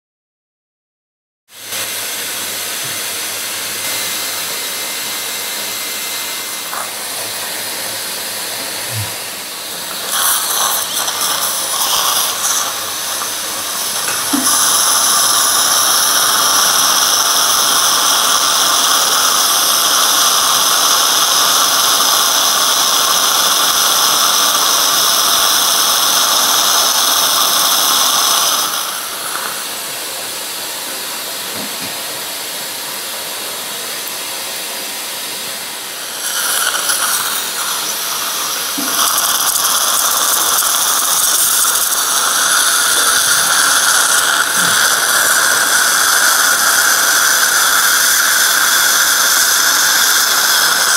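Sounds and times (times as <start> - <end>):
dental drill whining: 1.6 - 50.9
irrigation spray hissing: 2.7 - 30.4, 35.8 - 50.9.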